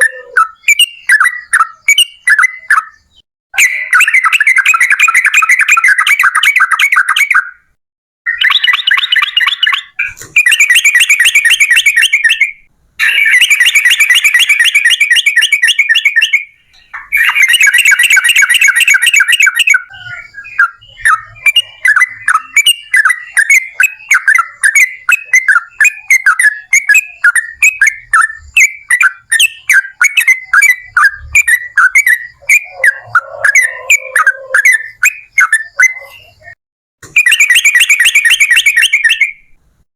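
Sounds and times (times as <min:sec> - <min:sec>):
bird singing rolling song: 0:00.0 - 0:07.6, 0:08.3 - 0:36.6, 0:37.2 - 0:39.6.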